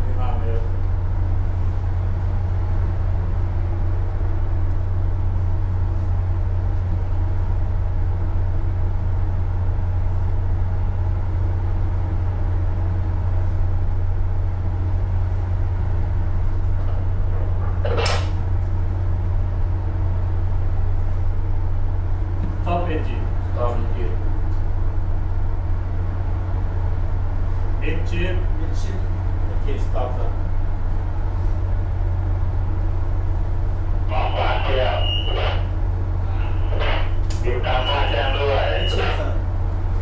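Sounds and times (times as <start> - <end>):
low engine machinery hum: 0.0 - 40.0.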